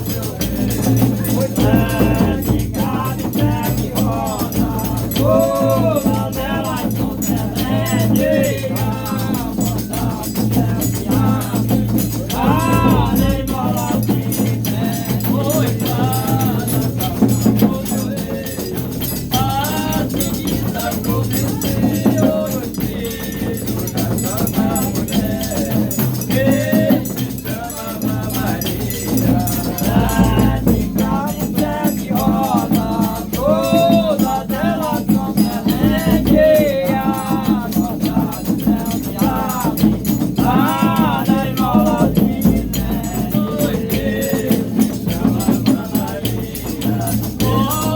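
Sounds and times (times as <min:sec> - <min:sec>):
rattles shaking: 0:00.0 - 0:47.9
voices singing a folk melody: 0:00.0 - 0:47.9.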